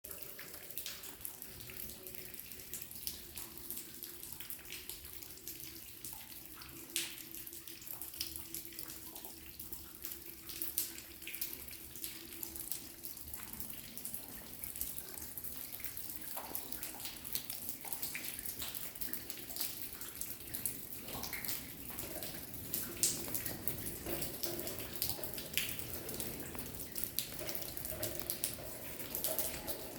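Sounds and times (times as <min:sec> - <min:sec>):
steady high trickle: 0:00.0 - 0:29.9
water dripping in a tunnel: 0:00.0 - 0:29.9.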